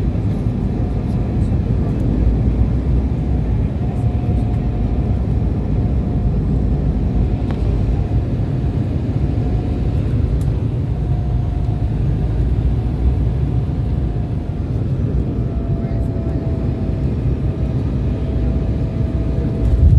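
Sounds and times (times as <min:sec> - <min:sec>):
jet engine cabin rumble: 0:00.0 - 0:19.9.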